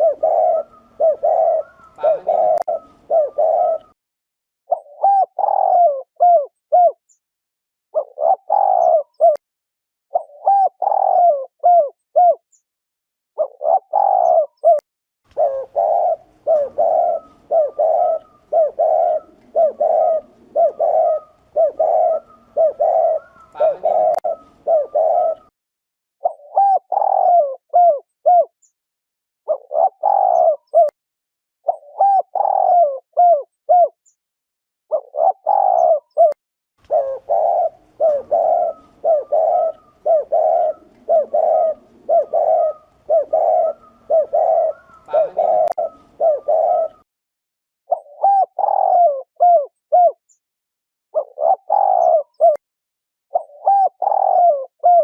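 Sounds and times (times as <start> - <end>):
dove cooing: 0.0 - 4.0, 4.7 - 7.0, 8.0 - 9.4, 10.1 - 12.4, 13.4 - 25.5, 26.2 - 28.5, 29.5 - 30.9, 31.7 - 34.0, 34.9 - 47.0, 47.9 - 50.2, 51.2 - 52.6, 53.3 - 55.0.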